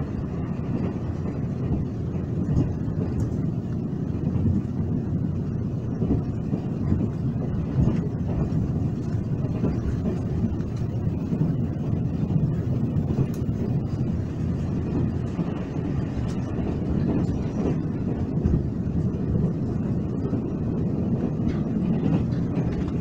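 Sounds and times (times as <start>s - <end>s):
train low rumble: 0.0s - 23.0s.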